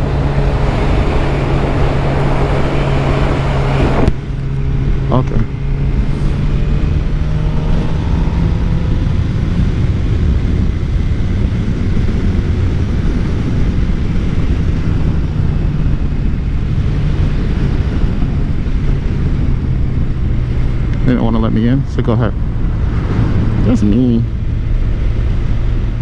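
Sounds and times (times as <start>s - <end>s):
motorcycle engine droning: 0.0s - 26.0s
wind rush over microphone: 0.0s - 26.0s.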